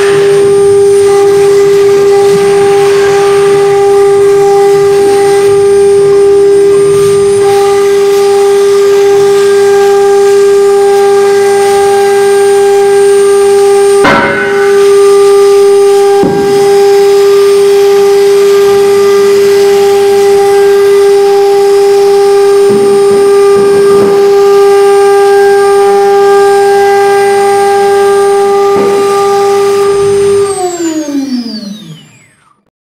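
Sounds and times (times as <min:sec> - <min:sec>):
cutter engraving wood: 0:00.0 - 0:32.5
router spindle high-pitched whine: 0:00.0 - 0:32.7.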